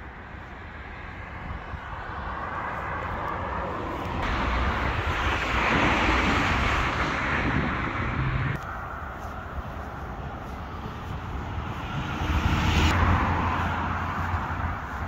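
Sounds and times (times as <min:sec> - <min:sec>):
passing vehicle rumble: 0:00.4 - 0:15.0.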